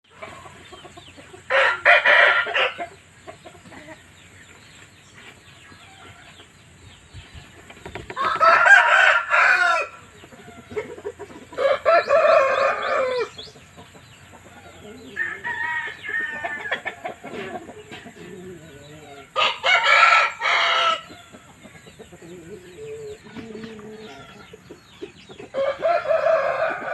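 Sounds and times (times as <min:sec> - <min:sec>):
soft clucking and chirping: 0:00.0 - 0:26.9
roosters crowing: 0:00.1 - 0:04.2, 0:05.6 - 0:06.8, 0:07.6 - 0:26.9.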